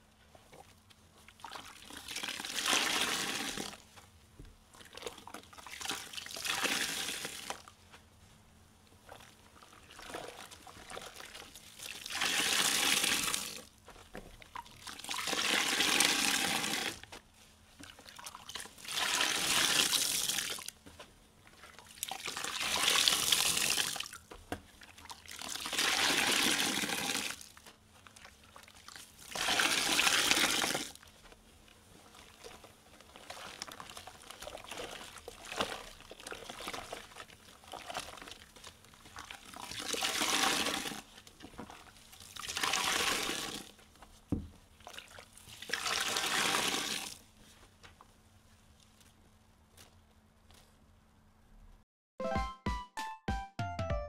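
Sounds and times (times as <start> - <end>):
water gushing from squeezed sponge: 0.4 - 4.0, 4.7 - 7.8, 9.0 - 20.8, 21.4 - 47.6.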